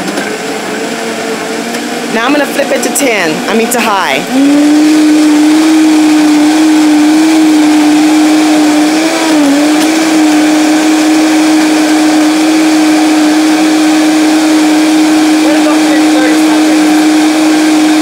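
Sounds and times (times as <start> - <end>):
blender motor whining: 0.0 - 18.0.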